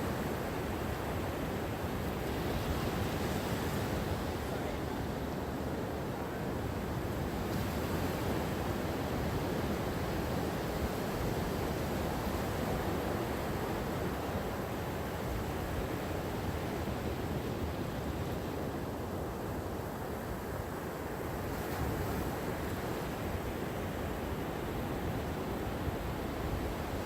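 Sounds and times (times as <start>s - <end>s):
gentle ocean waves on shore: 0.0s - 27.0s.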